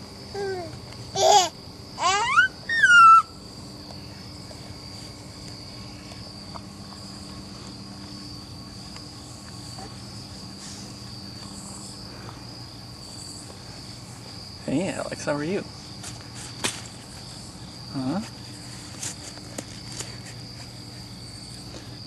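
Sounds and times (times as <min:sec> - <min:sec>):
insects chirping chorus: 0:00.0 - 0:22.0.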